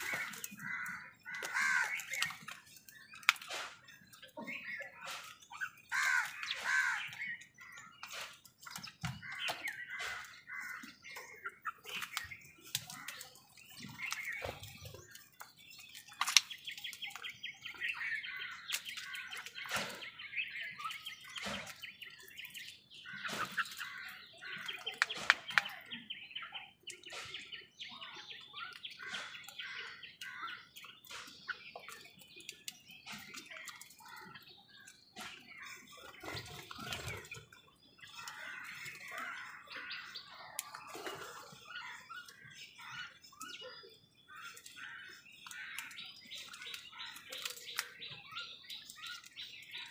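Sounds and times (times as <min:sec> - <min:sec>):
crows and mynas chattering: 0:00.0 - 0:49.9.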